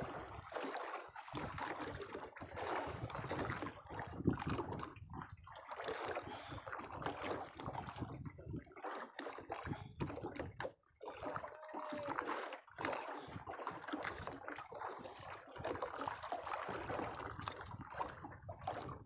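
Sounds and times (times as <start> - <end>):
water slapping against boat hull: 0.0 - 19.0.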